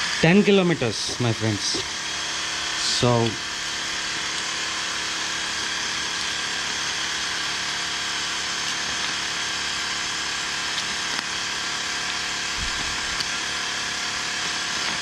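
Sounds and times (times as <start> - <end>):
small electric motor whirring: 0.0 - 15.0.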